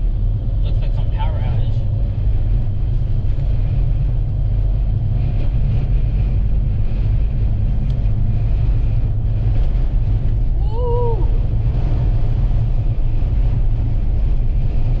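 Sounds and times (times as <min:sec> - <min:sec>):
vehicle driving on highway: 0:00.0 - 0:15.0.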